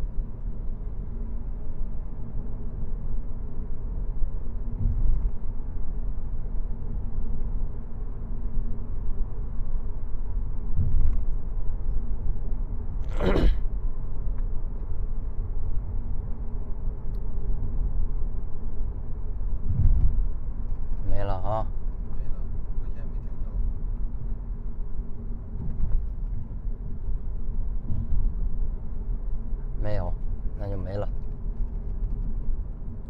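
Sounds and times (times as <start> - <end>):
road and tyre rumble in car: 0.0 - 33.0.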